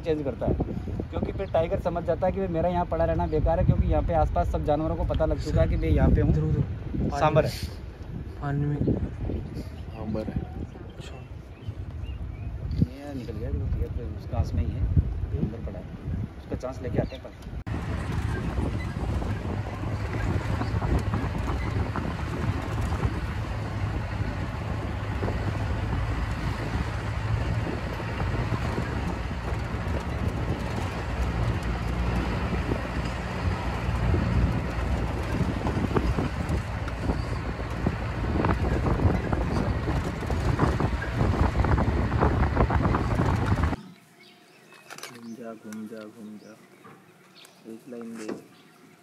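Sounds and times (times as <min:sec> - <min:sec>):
wind buffeting microphone: 0:00.0 - 0:43.9
vehicle engine and road rumble: 0:00.0 - 0:44.0.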